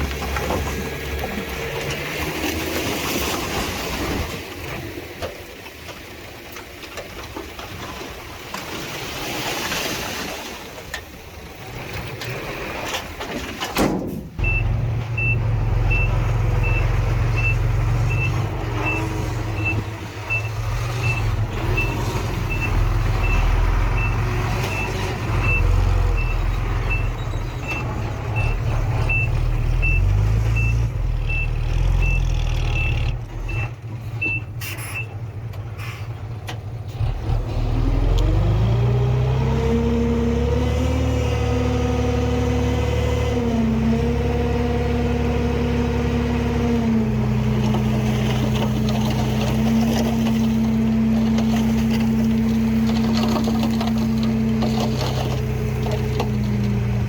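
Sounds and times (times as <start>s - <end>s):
deep diesel engine rumble: 0.0s - 5.6s, 11.1s - 57.0s
diesel earthmoving machinery: 0.0s - 57.0s.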